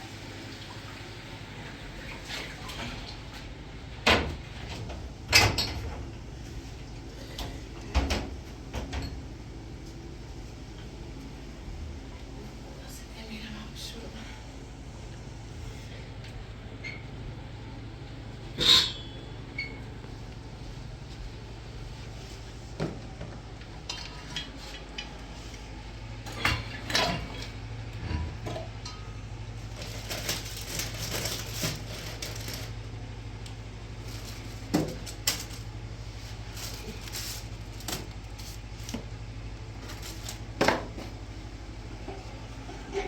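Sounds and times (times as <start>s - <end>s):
steady low hum: 2.8s - 43.0s.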